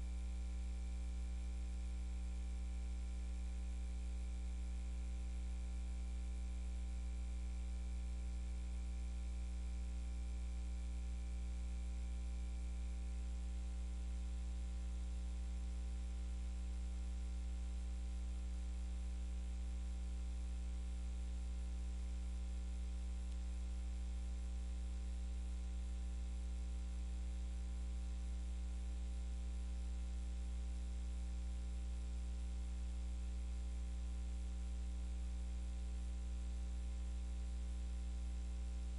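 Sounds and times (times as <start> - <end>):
electrical hum and buzz: 0.0 - 38.9.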